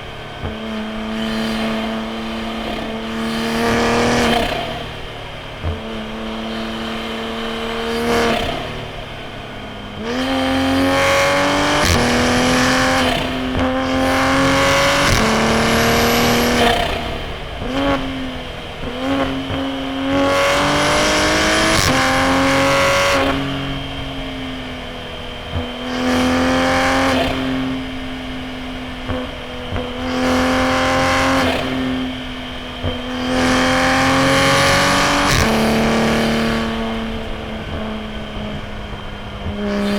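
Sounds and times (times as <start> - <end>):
car engine revving hard: 0.0 - 39.9
exhaust cracks: 0.0 - 39.9.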